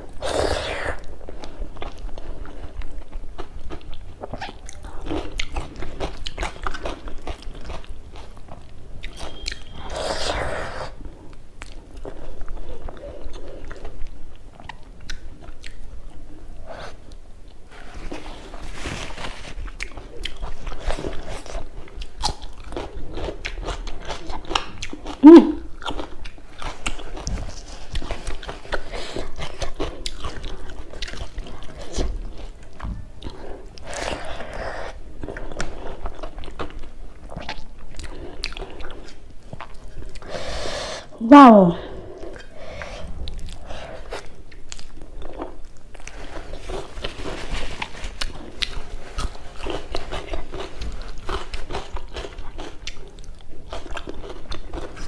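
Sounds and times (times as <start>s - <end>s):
chewing with crunchy bites: 0.0s - 40.6s, 42.0s - 55.0s.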